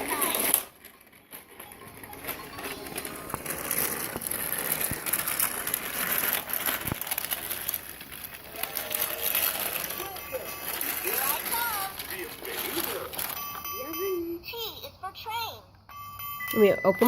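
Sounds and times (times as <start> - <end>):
toy train motor whirr: 0.0 - 15.6.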